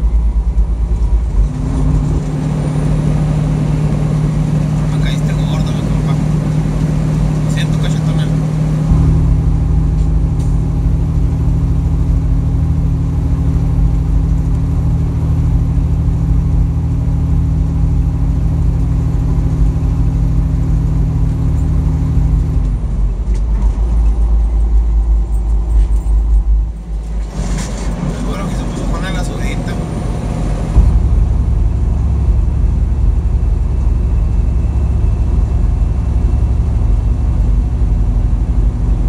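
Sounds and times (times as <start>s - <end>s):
truck engine and road drone: 0.0s - 39.0s.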